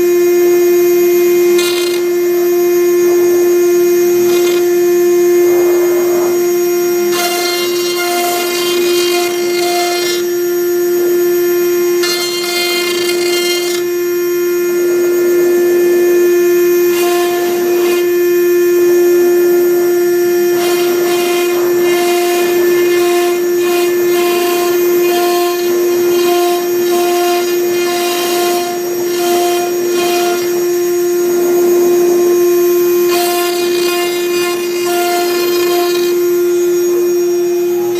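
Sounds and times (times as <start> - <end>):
router spindle whining: 0.0 - 37.9
stepper motor tones: 0.0 - 37.9.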